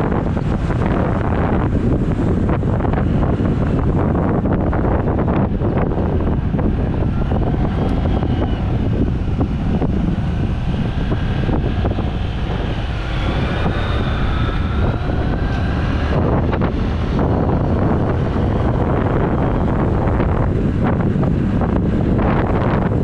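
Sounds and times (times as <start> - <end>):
faint wavering whine: 0.0 - 23.0
motorcycle engine: 0.0 - 23.0
wind buffeting microphone: 0.0 - 23.0.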